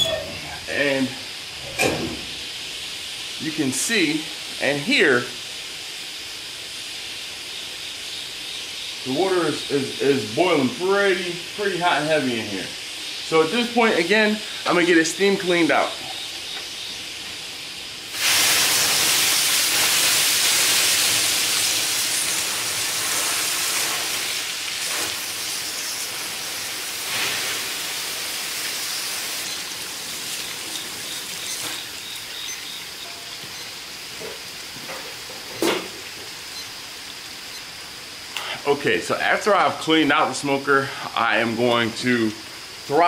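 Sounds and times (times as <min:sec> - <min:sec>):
loud steam hissing: 0:00.0 - 0:43.0.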